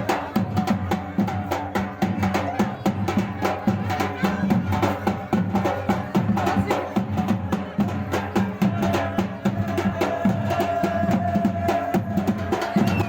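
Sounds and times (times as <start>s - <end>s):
drums beating fast rhythm: 0.0s - 13.0s.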